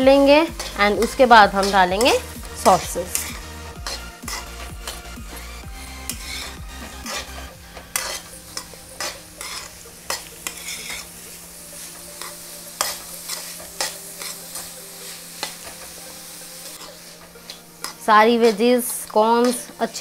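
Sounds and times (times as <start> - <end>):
vegetables sizzling in oil: 0.0 - 20.0
steel spoon scraping a pan: 0.2 - 16.0, 16.6 - 20.0.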